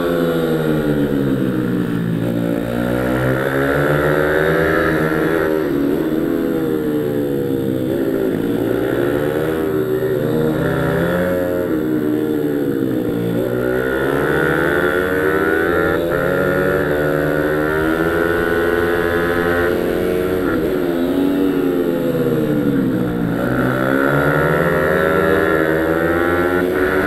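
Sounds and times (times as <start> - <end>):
pit bike engine revving: 0.0 - 27.0.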